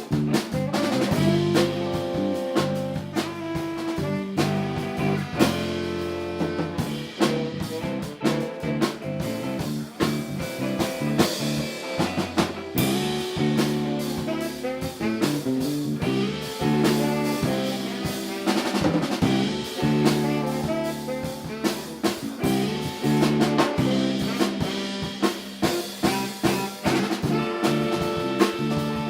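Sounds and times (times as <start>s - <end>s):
bass line: 0.0s - 29.0s
drum kit beat: 0.0s - 29.0s
guitar: 0.0s - 29.0s
horns: 0.0s - 29.0s.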